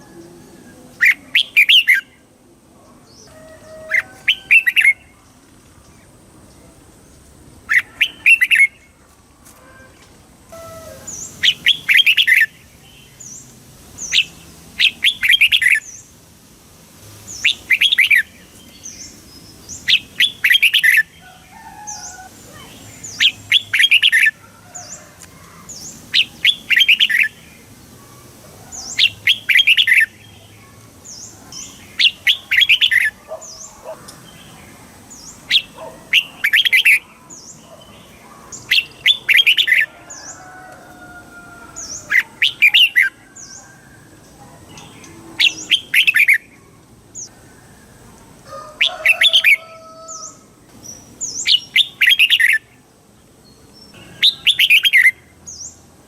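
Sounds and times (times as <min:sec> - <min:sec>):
bulbul singing: 0:00.0 - 0:02.3, 0:03.1 - 0:08.9, 0:10.5 - 0:16.2, 0:17.2 - 0:25.0, 0:25.6 - 0:27.8, 0:28.8 - 0:40.6, 0:41.8 - 0:47.4, 0:48.8 - 0:52.8, 0:53.4 - 0:55.8.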